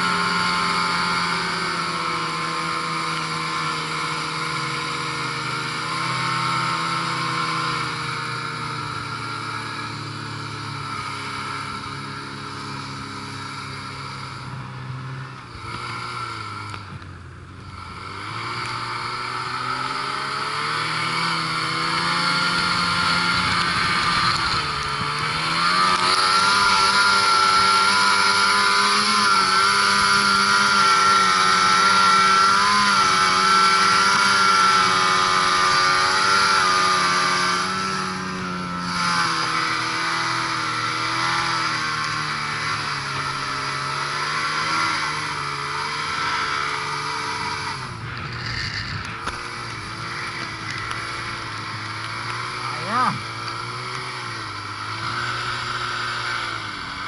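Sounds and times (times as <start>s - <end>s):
snowmobile engine at high revs: 0.0s - 57.0s.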